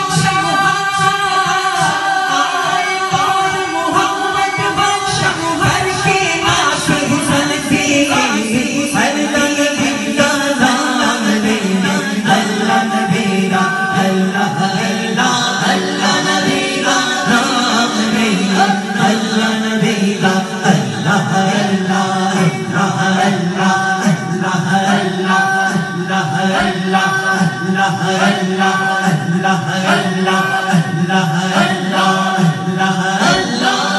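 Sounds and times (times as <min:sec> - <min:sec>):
man singing into a microphone: 0:00.0 - 0:33.9
men chanting in unison: 0:00.0 - 0:33.9.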